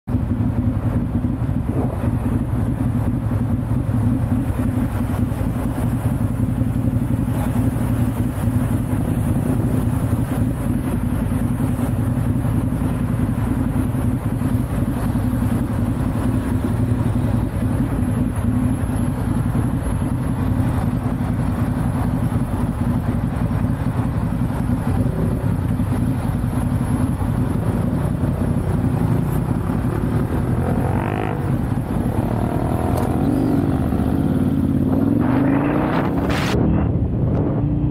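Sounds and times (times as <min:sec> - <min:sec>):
motorcycle engine running: 0:00.1 - 0:37.9.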